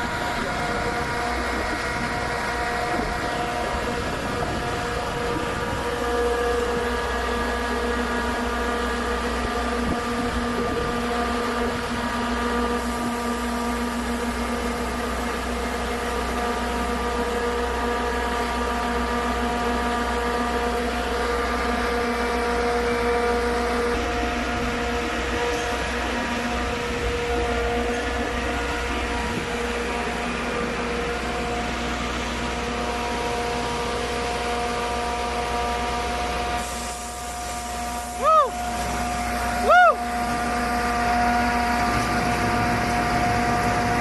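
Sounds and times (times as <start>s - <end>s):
diesel engines running steadily: 0.0s - 44.0s.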